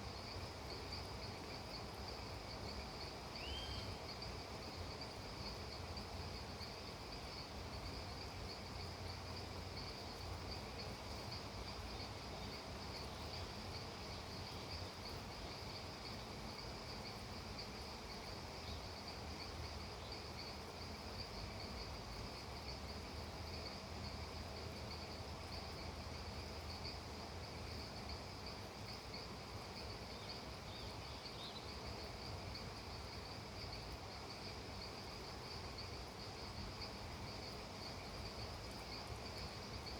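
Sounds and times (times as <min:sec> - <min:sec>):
crickets chirring: 0:00.0 - 0:39.9
faint background hiss: 0:00.0 - 0:39.9.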